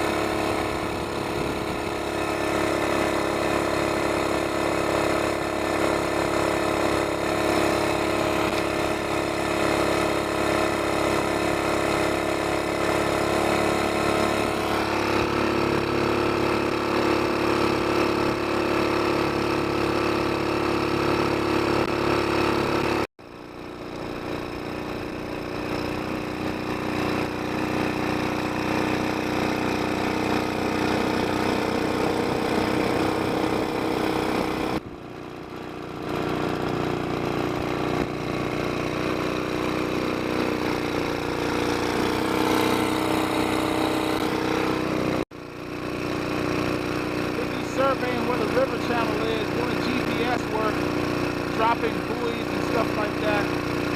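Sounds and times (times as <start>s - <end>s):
mud motor engine running: 0.0s - 53.9s.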